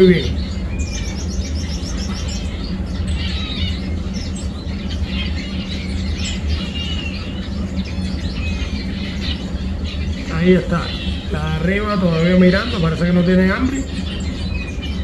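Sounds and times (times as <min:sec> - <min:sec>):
finches chirping: 0:00.0 - 0:15.0
steady low hum: 0:00.0 - 0:15.0.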